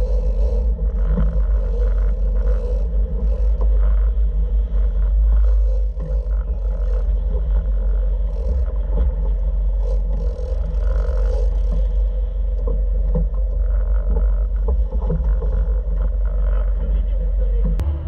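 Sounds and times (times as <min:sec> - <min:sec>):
boat engine rumbling: 0:00.0 - 0:18.0
water rushing along hull: 0:00.0 - 0:18.0.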